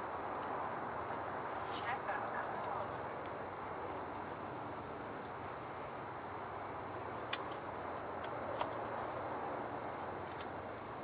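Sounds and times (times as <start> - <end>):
continuous high thin tone: 0.0 - 11.0.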